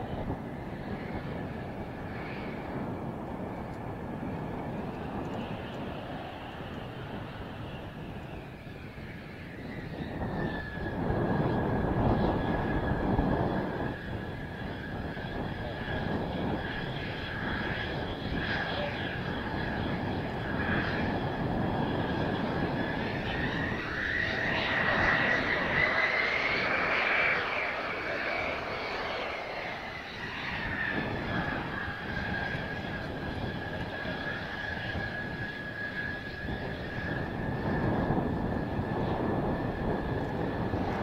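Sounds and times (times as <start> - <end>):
jet engine whine: 0.0 - 41.0
wind buffeting microphone: 0.0 - 41.0.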